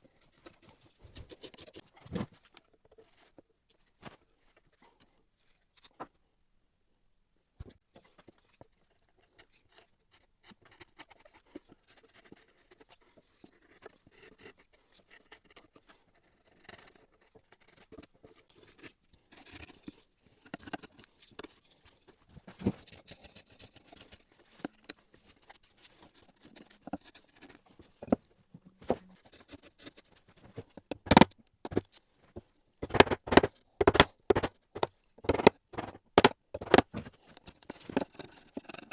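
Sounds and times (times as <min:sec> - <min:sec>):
small clicks and scrapes on wood: 0:00.0 - 0:06.2, 0:07.7 - 0:38.9.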